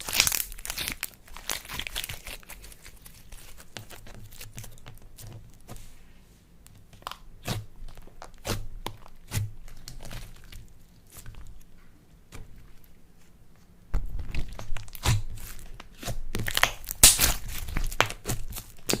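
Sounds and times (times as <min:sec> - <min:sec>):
slime crackling and crunching: 0:00.0 - 0:05.7, 0:07.0 - 0:11.7, 0:14.0 - 0:19.0.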